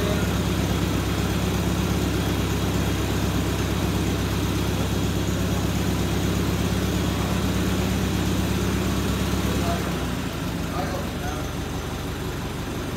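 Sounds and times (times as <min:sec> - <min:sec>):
tractor engine idling: 0:00.0 - 0:12.9.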